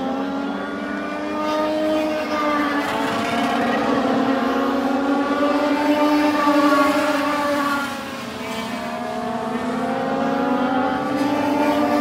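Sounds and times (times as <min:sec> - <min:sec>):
race cars passing at full throttle: 0:00.0 - 0:12.0.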